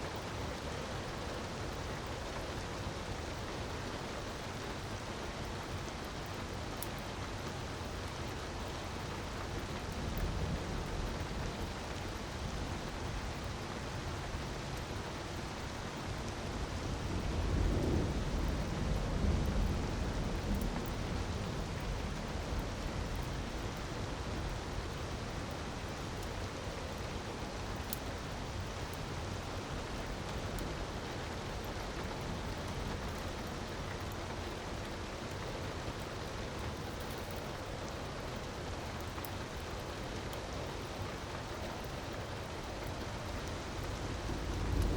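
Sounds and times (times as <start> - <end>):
wood fire crackling: 0.1 - 44.9.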